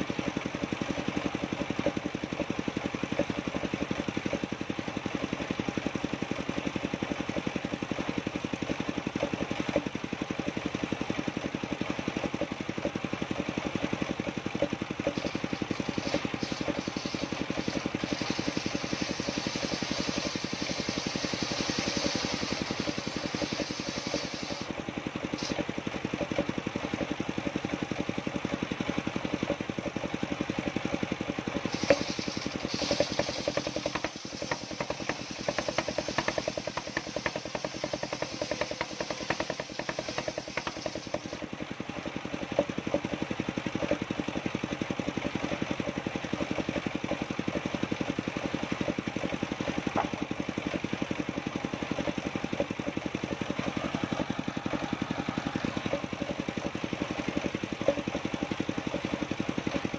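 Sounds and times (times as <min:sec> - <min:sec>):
engine running with rapid pulse: 0:00.0 - 0:59.9.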